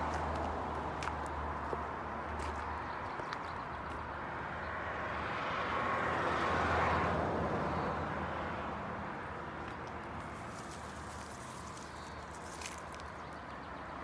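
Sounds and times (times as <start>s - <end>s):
vehicle passing: 0.0s - 14.0s.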